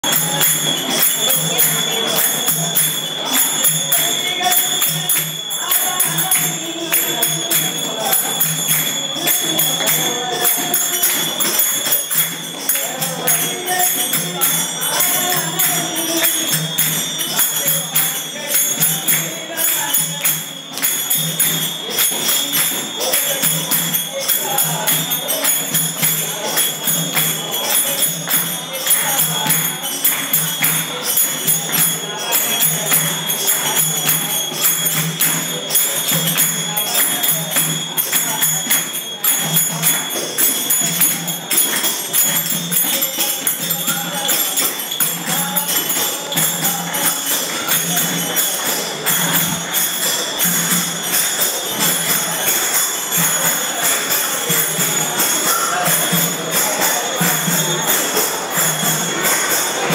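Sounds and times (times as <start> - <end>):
metallic percussion jingling: 0.0 - 59.9
voices chanting: 0.0 - 59.9.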